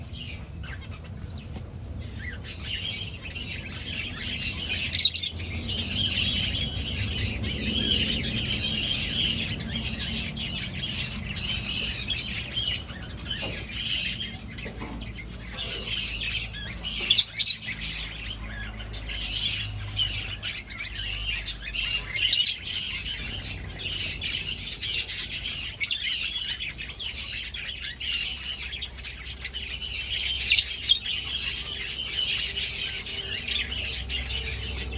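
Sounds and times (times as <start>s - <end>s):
finches chirping: 0.0s - 34.9s.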